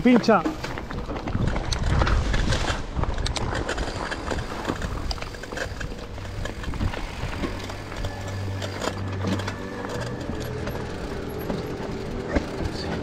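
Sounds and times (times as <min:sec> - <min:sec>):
bike tyres clicking and rattling: 0:00.0 - 0:13.0.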